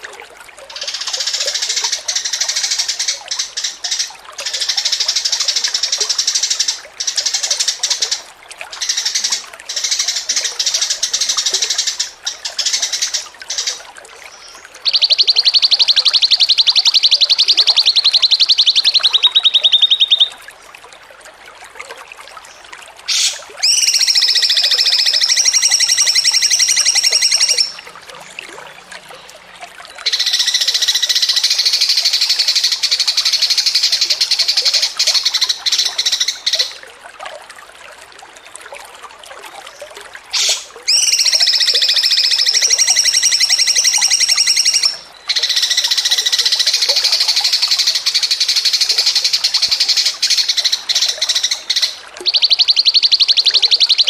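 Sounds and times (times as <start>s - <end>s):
songbird trilling: 0.7s - 13.8s, 14.4s - 20.4s, 23.1s - 27.8s, 30.0s - 36.8s, 40.3s - 54.0s.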